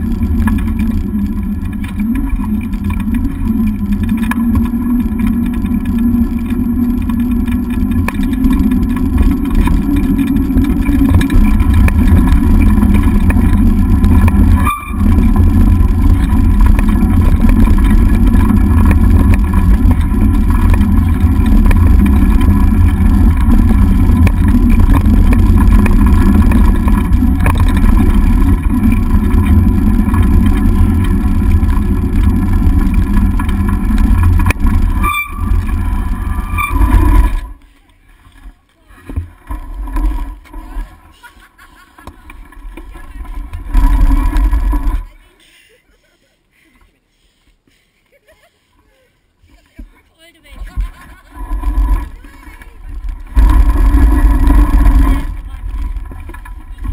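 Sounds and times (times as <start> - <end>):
scooter rolling over gravel: 0.0 - 45.3, 49.6 - 56.9.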